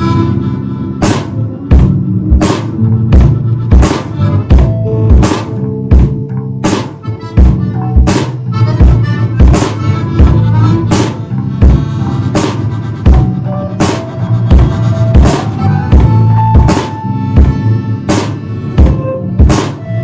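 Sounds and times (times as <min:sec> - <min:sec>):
accordion: 0:00.0 - 0:20.0
bass: 0:00.0 - 0:20.0
guitar: 0:00.0 - 0:20.0
drum kit beat: 0:01.0 - 0:20.0.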